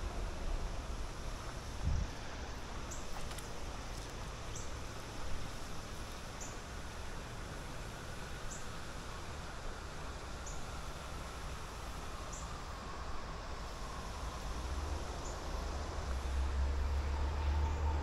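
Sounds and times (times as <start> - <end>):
river water running over riffle: 0.0 - 18.0.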